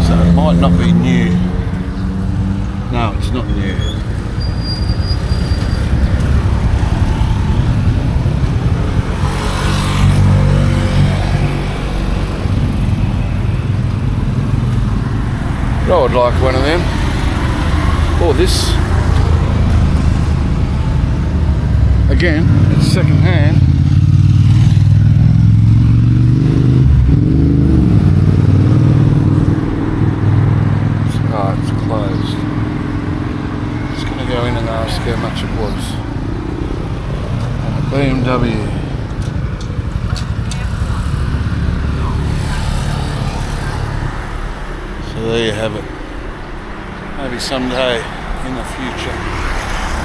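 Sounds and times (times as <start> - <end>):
passing vehicle engine: 0.0 - 50.0
street traffic rumble: 0.0 - 50.0.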